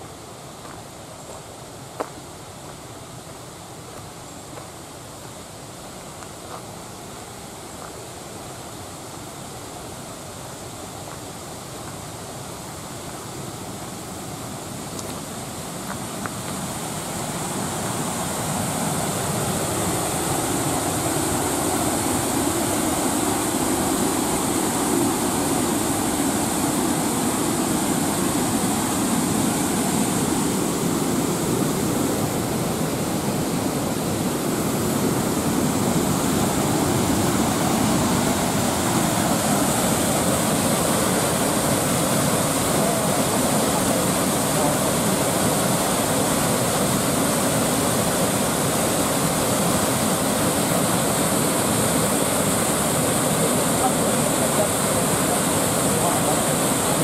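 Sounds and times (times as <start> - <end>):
waterfall rushing: 5.0 - 57.0.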